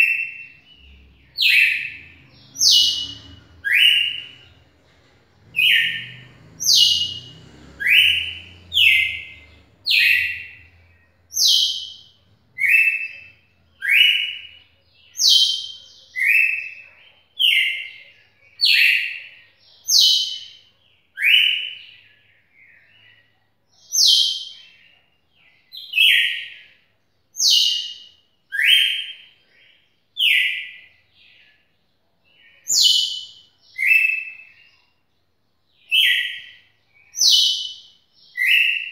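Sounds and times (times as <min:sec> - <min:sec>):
bird singing whistled notes: 0:00.0 - 0:04.6, 0:05.6 - 0:23.1, 0:23.8 - 0:24.9, 0:27.4 - 0:31.6, 0:32.3 - 0:34.9, 0:35.7 - 0:38.9.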